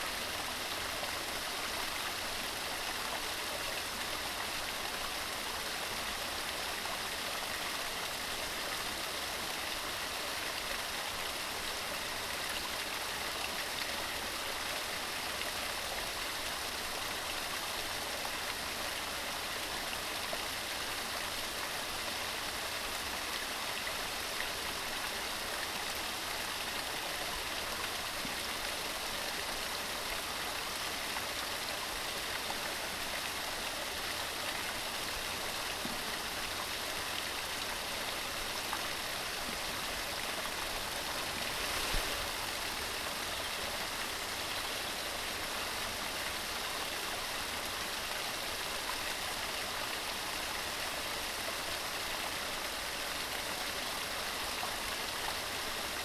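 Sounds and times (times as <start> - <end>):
stream rushing over rocks: 9.9 - 56.0.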